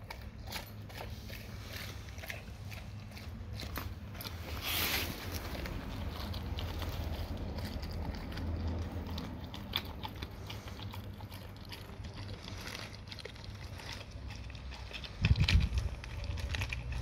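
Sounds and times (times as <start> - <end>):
dog chewing with wet crunches: 0.0 - 17.0.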